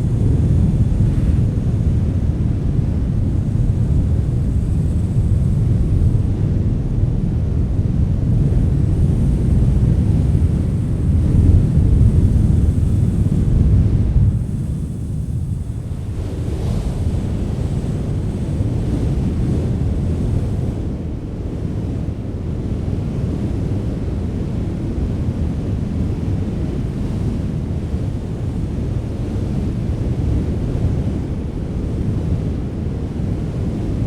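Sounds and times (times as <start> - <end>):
strong wind rumbling: 0.0 - 34.0.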